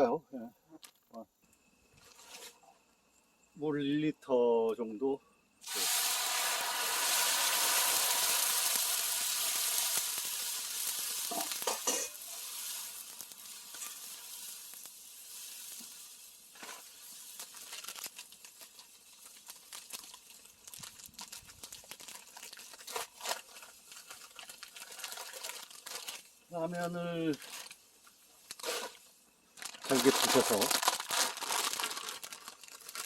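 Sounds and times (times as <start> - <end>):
water sizzling on hot griddle: 1.9 - 3.4, 5.6 - 33.0.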